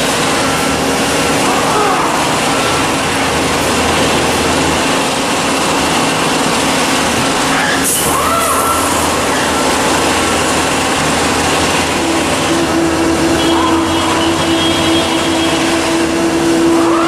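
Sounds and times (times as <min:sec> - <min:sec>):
lathe machine hum: 0:00.0 - 0:17.0
machine whine: 0:00.0 - 0:17.0.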